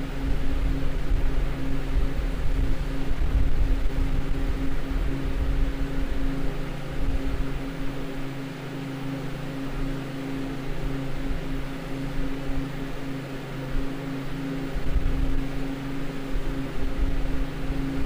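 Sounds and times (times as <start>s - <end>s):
evaporator fans humming: 0.0s - 18.0s.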